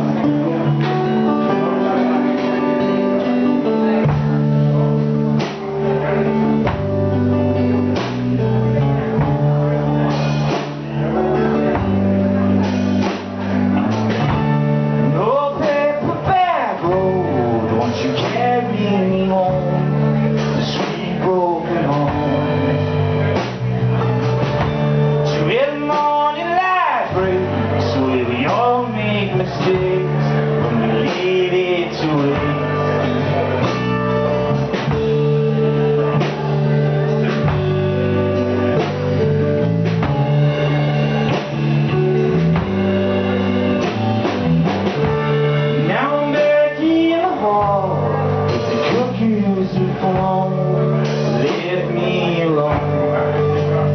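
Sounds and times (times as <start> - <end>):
electric guitar: 0.0 - 53.9.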